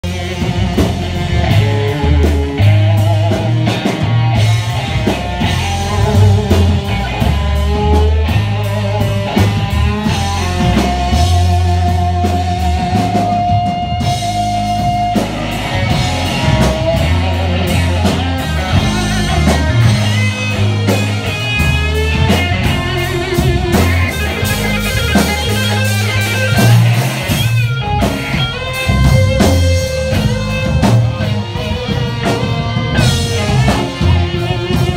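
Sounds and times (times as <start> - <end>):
bass: 0.0 - 34.9
drums: 0.0 - 34.9
electric guitar: 0.0 - 34.9.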